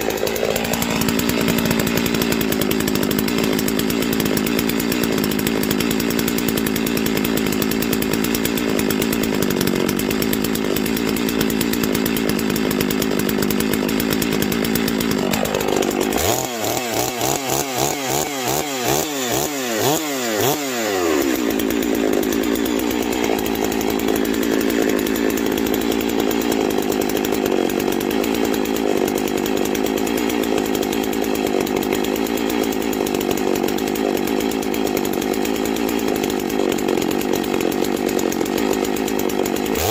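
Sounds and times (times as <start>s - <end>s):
chainsaw idling: 0.0s - 39.9s.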